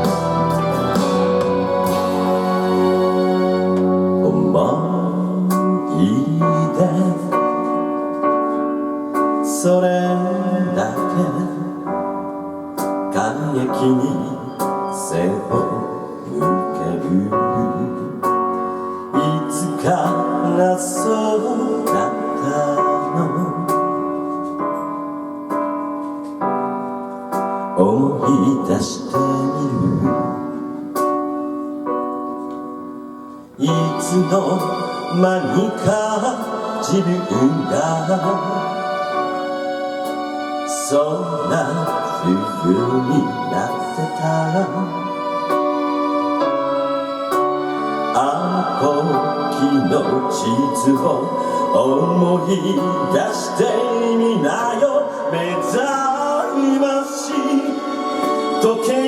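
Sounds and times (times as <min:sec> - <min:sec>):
live keyboard-led pop music: 0:00.0 - 0:59.0.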